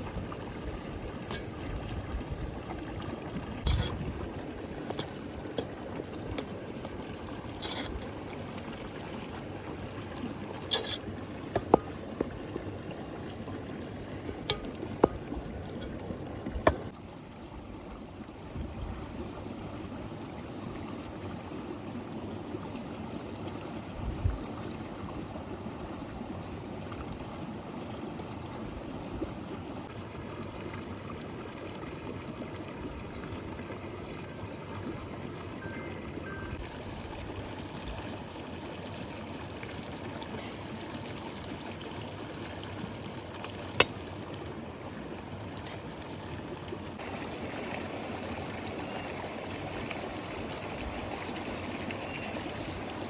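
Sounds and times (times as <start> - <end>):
river water flowing: 0.0 - 18.5, 24.5 - 53.0.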